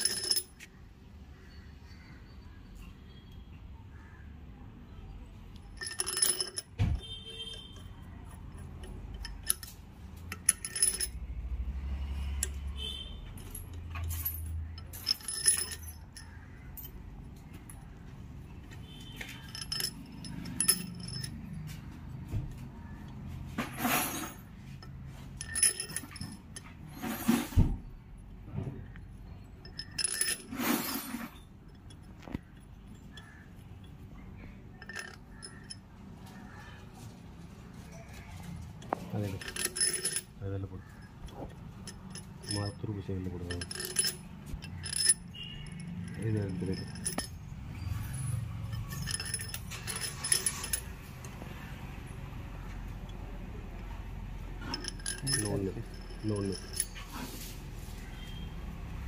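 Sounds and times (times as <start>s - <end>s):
metal tools clinking: 0.0s - 0.7s, 5.5s - 27.6s, 28.6s - 36.6s, 37.8s - 57.5s.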